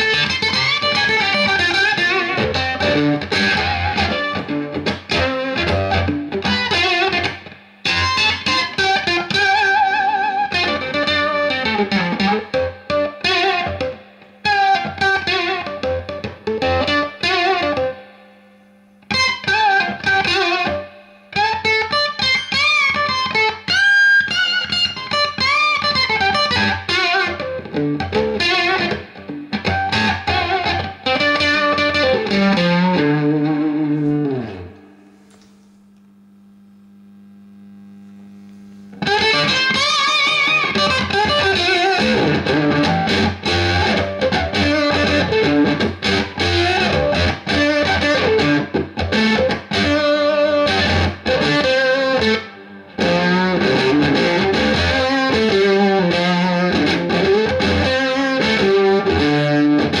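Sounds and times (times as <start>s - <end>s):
amp hum: 0.0s - 60.0s
fuzzed electric guitar: 0.0s - 60.0s.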